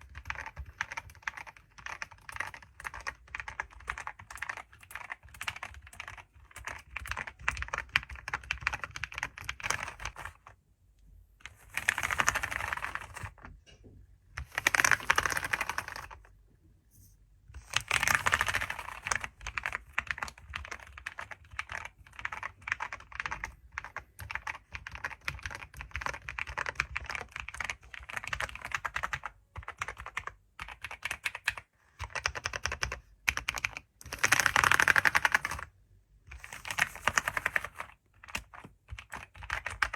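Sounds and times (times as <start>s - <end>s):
computer keyboard typing: 0.0s - 10.6s, 11.4s - 13.5s, 14.3s - 16.3s, 17.6s - 39.9s.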